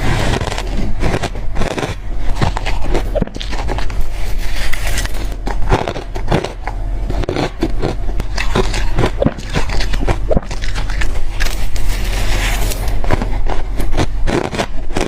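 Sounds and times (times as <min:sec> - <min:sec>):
chewing crushed ice: 0:00.0 - 0:15.0.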